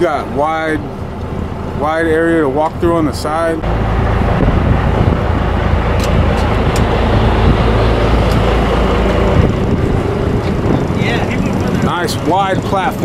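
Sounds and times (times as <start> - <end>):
boat engines rumbling: 0.0 - 13.0.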